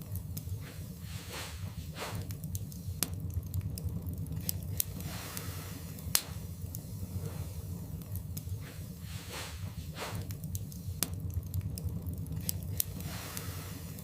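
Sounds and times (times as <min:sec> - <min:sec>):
low rumble of flames: 0:00.0 - 0:14.0
wood fire crackling and snapping: 0:00.0 - 0:14.0.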